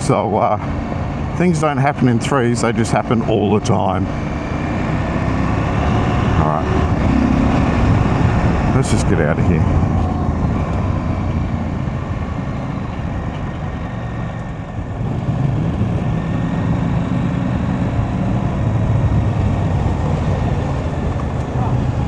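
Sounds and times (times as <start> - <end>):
tyres on gravel road: 0.0 - 22.0.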